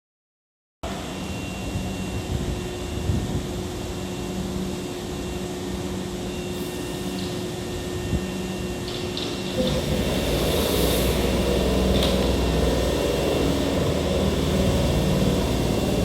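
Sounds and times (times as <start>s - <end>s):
electric train humming: 0.9s - 16.0s.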